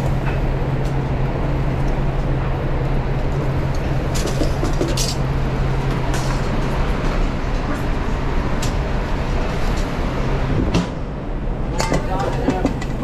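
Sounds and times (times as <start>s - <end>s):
constant low hum: 0.0s - 13.0s
kitchen ventilation roar: 0.0s - 13.0s.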